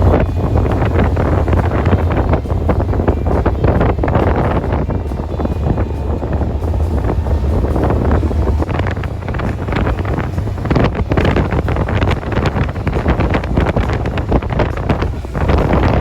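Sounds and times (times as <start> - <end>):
motorbike engine rumble: 0.0 - 16.0
wind buffeting microphone: 0.0 - 16.0.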